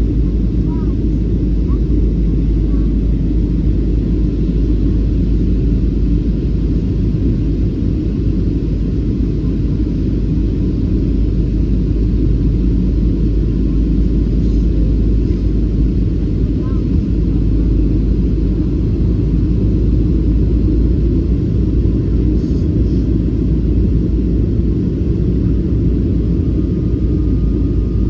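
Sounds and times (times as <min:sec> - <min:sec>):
airliner engines rumbling: 0:00.0 - 0:28.0.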